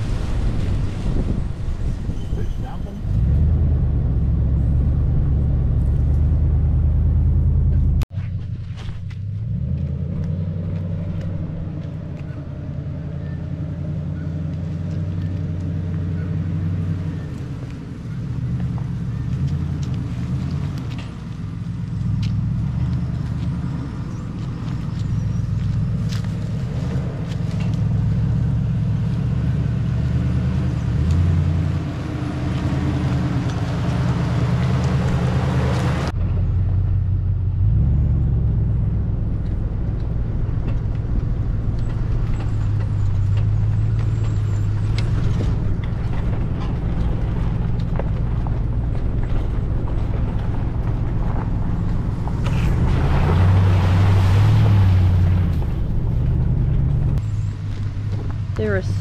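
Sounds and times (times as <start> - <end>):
car engine running: 2.8 - 59.0.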